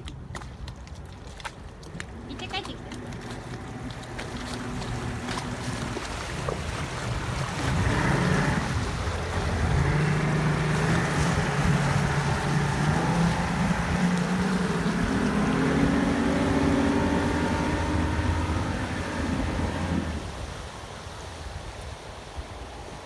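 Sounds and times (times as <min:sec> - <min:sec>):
water rushing past hull: 0:00.0 - 0:23.0
outboard motors running: 0:01.6 - 0:20.6
wind buffeting microphone: 0:01.8 - 0:21.7.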